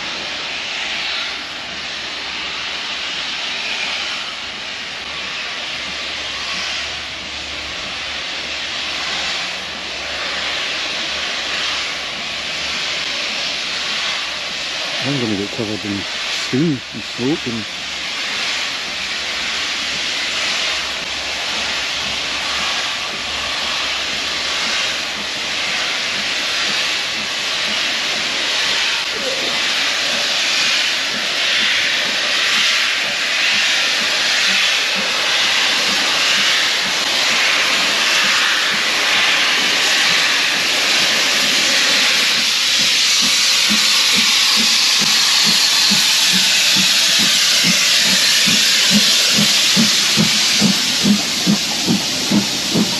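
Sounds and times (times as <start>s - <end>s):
regular locomotive beat: 0.0s - 52.9s
steam locomotive hissing: 0.0s - 52.9s.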